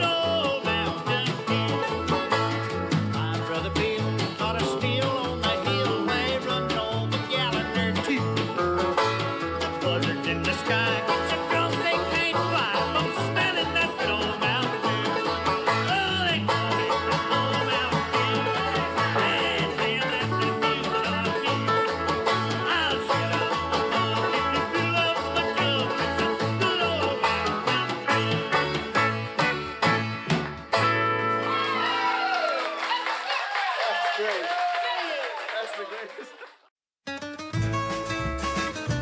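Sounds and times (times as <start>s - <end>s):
bass line: 0.0s - 32.0s, 37.1s - 39.0s
banjo playing fast: 0.0s - 32.4s, 37.1s - 39.0s
country band music: 0.0s - 33.0s, 37.1s - 39.0s.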